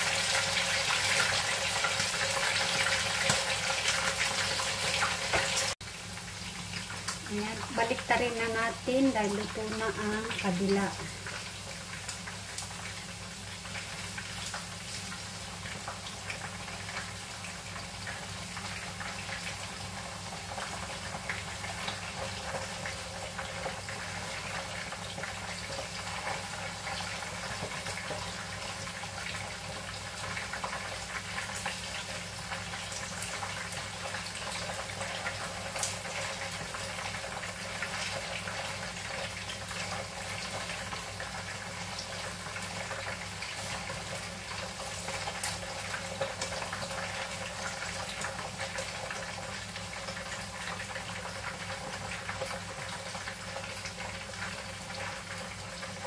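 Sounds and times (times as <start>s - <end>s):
oil sizzling with crackles and pops: 0.0s - 56.0s.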